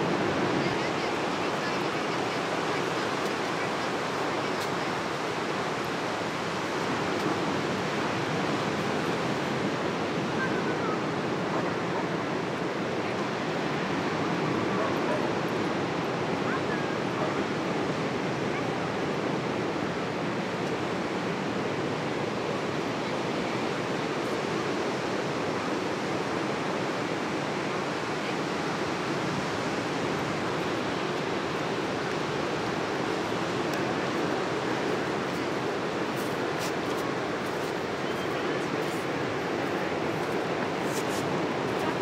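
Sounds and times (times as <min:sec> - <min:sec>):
ocean surf breaking on shore: 0:00.0 - 0:42.0.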